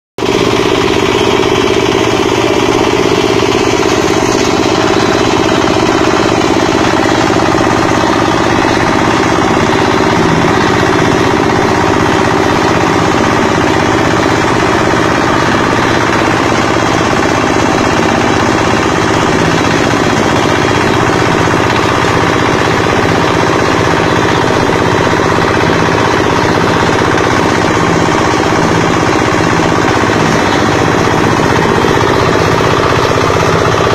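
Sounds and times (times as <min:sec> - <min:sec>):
grass chopper machine running: 0:00.2 - 0:33.9.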